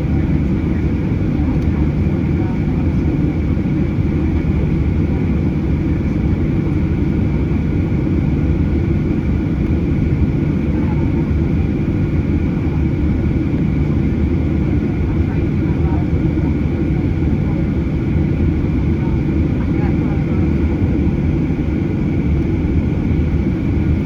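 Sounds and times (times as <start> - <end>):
airplane cabin engine rumble: 0.0 - 24.0
faint engine whine: 0.0 - 24.0.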